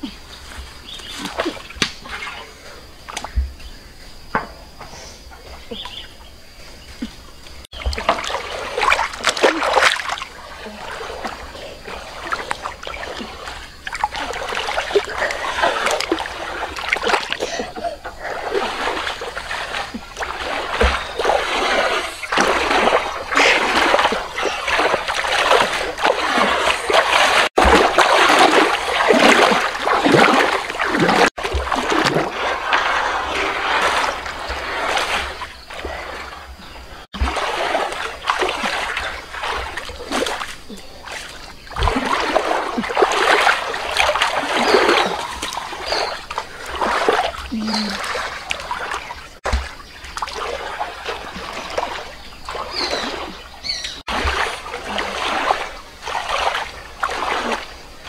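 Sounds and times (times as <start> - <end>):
water splashing in metal basin: 7.7 - 36.3, 37.1 - 58.0.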